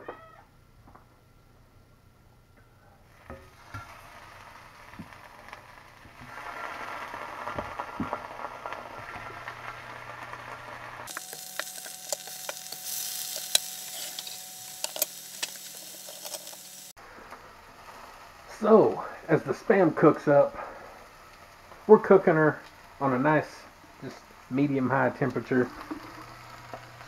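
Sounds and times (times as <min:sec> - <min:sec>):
bacon sizzling in a skillet: 0:03.1 - 0:27.0.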